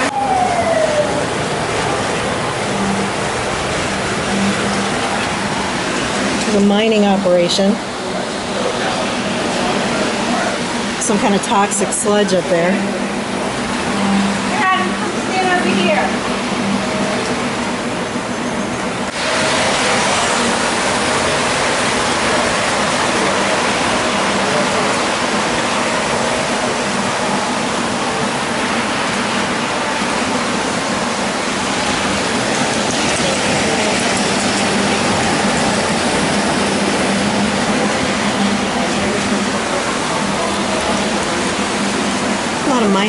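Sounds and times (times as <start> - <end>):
steady rushing noise: 0.0 - 43.0.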